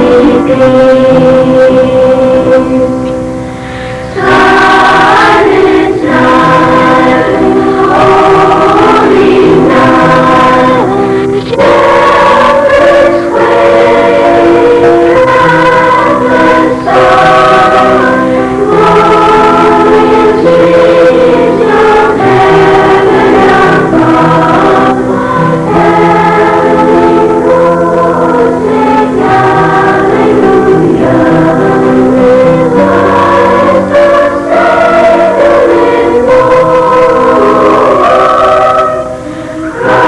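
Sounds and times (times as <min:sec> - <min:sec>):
choir singing in harmony: 0:00.0 - 0:40.0.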